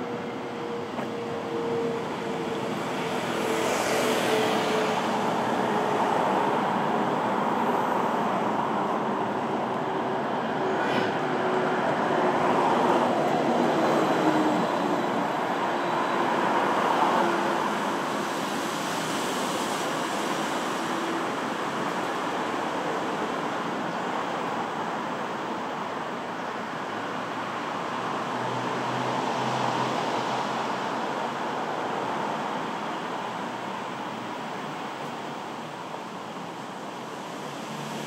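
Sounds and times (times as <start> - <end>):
road traffic: 0.0 - 38.0.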